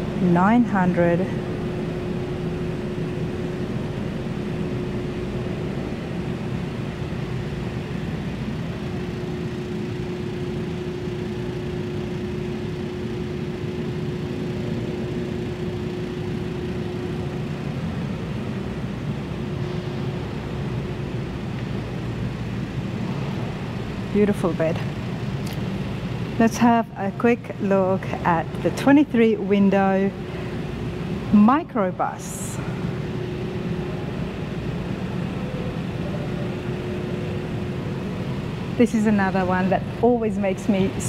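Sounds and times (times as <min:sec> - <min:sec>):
mechanical hum drone: 0:00.0 - 0:41.0.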